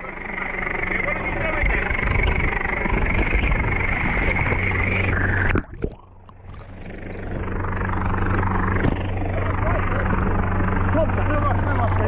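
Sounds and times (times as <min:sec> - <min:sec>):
boat engine drone: 0:00.0 - 0:12.0
wind and water noise: 0:00.0 - 0:12.0.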